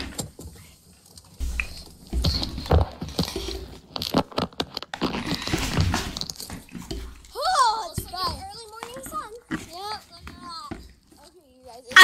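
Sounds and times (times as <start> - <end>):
knocks and bumps: 1.4 - 11.3.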